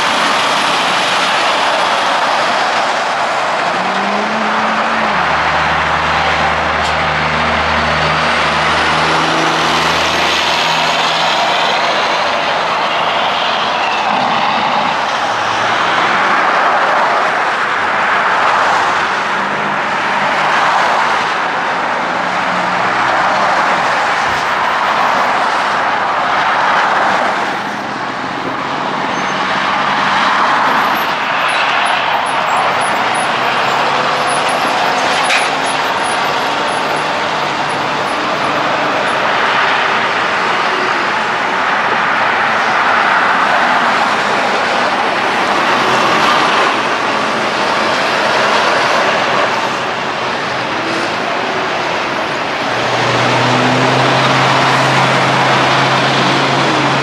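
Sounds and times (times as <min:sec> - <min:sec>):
vehicles passing on highway: 0:00.0 - 0:57.0.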